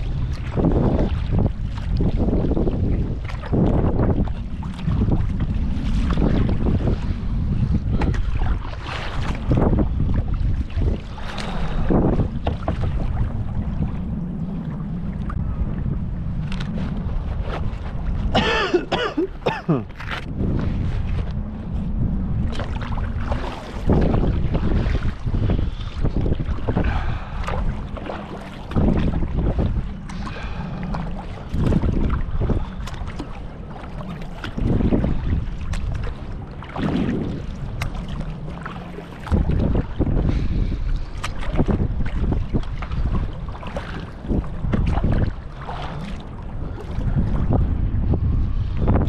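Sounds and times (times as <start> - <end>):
water around kayak: 0.0 - 49.0
wind rumbling on microphone: 0.0 - 49.0.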